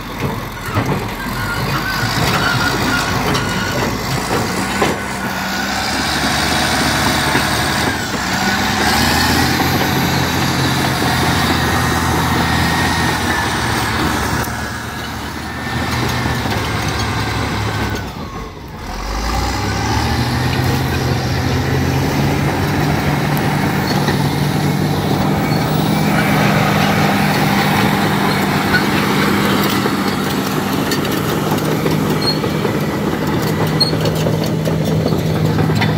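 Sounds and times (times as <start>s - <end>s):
bulldozer diesel engine: 0.0s - 35.9s
steel tracks clattering: 0.0s - 35.9s.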